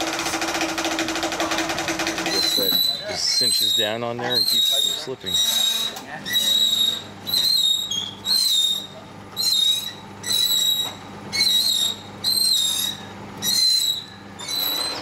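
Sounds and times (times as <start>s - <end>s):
rope pulley squeaking: 0.1s - 15.0s.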